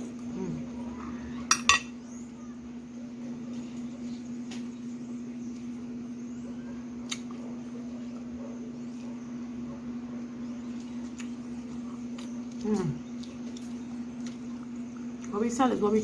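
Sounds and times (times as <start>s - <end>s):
fan or motor humming: 0.0s - 16.0s.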